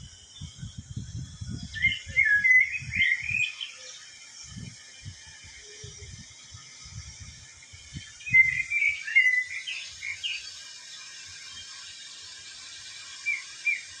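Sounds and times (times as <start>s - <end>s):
steady hiss: 0.0s - 14.0s
small birds chirping: 0.2s - 14.0s.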